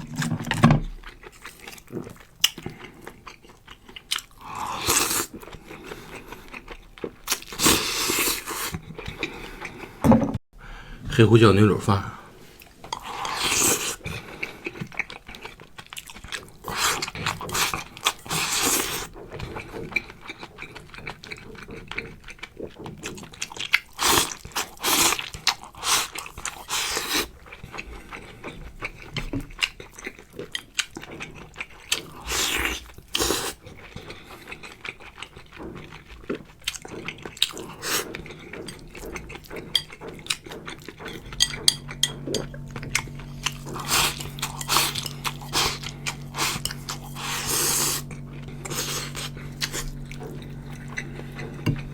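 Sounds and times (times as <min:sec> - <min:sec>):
close chewing and mouth noises: 0:00.0 - 0:10.0, 0:12.4 - 0:51.9.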